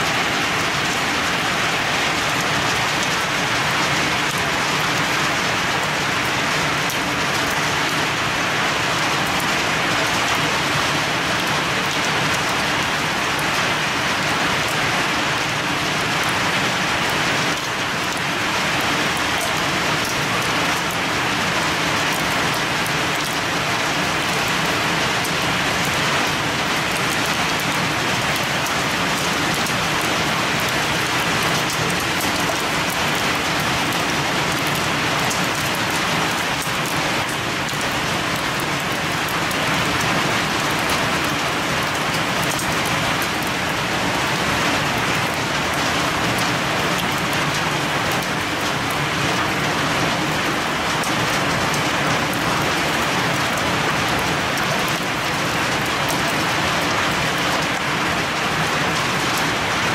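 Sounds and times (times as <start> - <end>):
heavy rain on leaves and concrete: 0.0 - 59.9.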